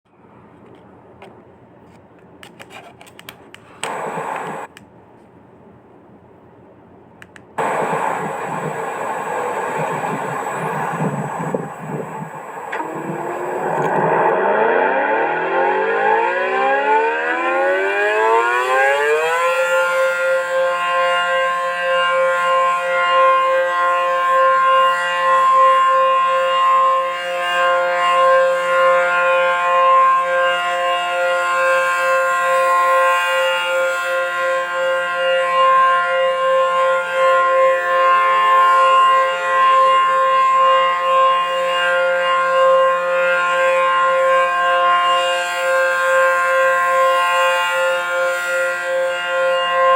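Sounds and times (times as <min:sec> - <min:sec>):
electronic warning siren: 0:03.8 - 0:04.7, 0:07.6 - 0:49.9.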